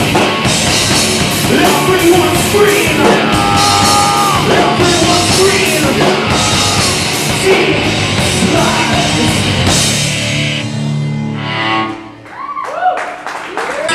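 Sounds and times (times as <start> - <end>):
heavy metal band playing live: 0.0 - 12.0
drums: 0.0 - 13.9.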